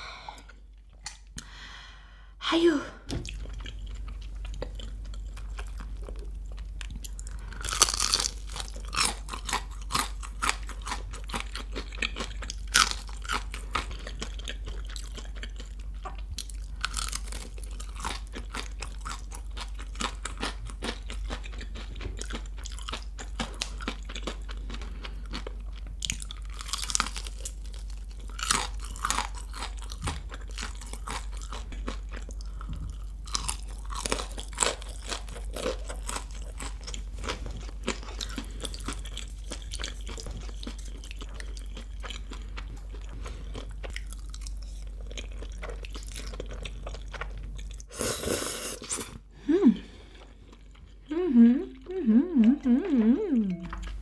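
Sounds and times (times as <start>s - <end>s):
crunching and chewing fried chicken: 3.2s - 51.2s.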